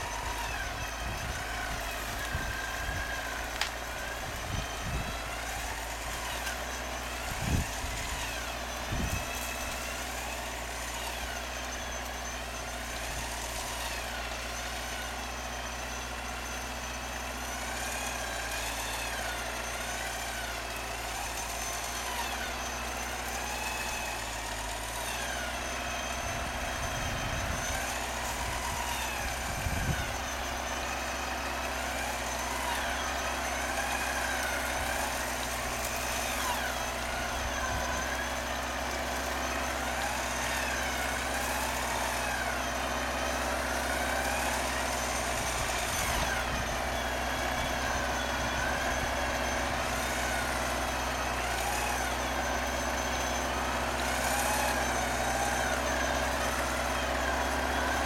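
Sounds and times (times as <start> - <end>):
engine running at low revs: 0.0 - 58.0.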